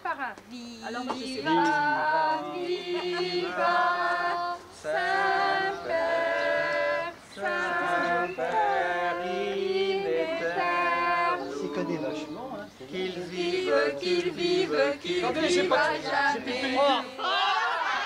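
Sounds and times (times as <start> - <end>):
choir singing long notes: 1.2 - 18.0.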